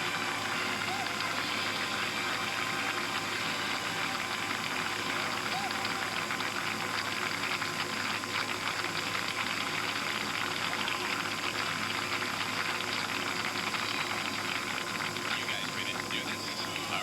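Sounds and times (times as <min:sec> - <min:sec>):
faint constant hum: 0:00.0 - 0:17.0.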